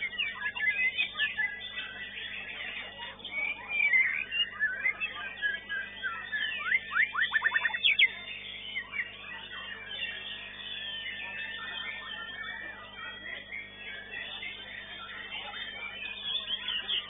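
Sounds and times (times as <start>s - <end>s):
bird singing whistled phrases: 0.0s - 14.6s, 15.2s - 17.0s.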